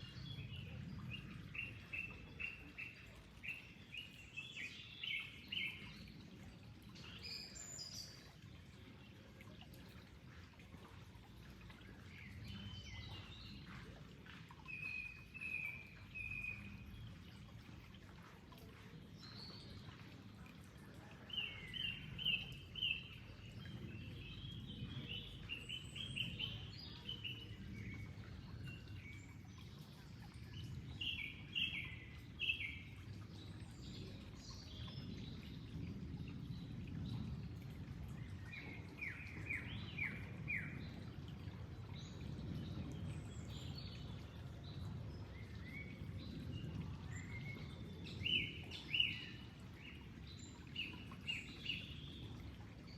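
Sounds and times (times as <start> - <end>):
flowing water: 0.0 - 52.9
songbirds chirping: 0.0 - 52.9.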